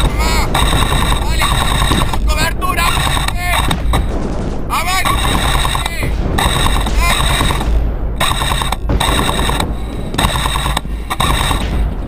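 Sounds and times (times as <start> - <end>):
airsoft guns firing full-auto: 0.0 - 11.9.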